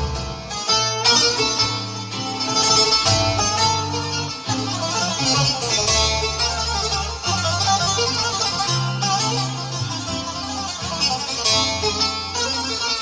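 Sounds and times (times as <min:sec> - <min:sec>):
plucked string lead: 0:00.0 - 0:13.0
sustained bass line: 0:00.0 - 0:13.0.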